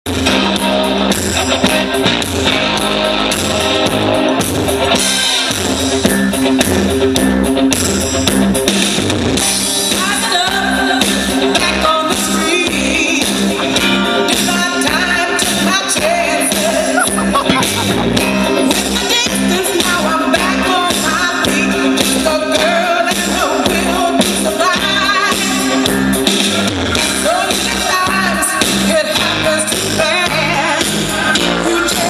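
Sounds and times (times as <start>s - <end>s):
blues-rock song with singing: 0.1s - 32.0s.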